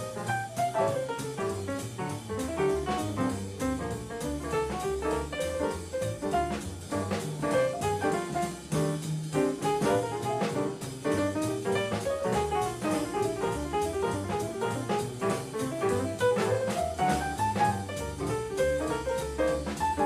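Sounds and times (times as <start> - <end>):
drum kit cymbals: 0.0 - 20.0
jazz combo melodic line: 0.0 - 20.0
walking double bass: 0.0 - 20.0.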